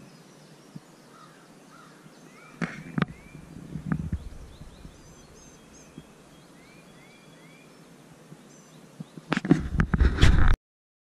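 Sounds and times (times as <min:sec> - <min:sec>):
faint birds chirping: 0:00.0 - 0:09.4.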